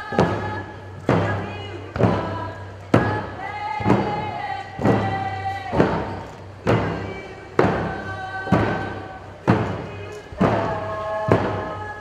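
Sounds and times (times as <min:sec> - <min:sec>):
drum beating slowly: 0:00.0 - 0:12.0
voices singing held notes: 0:00.0 - 0:12.0.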